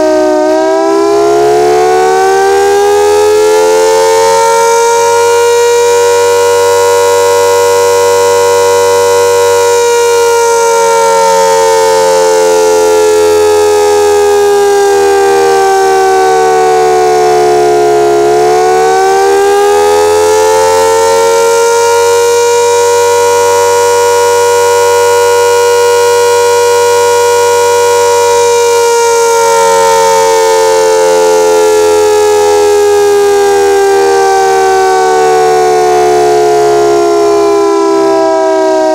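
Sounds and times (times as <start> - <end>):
air raid siren wailing: 0.0 - 38.9.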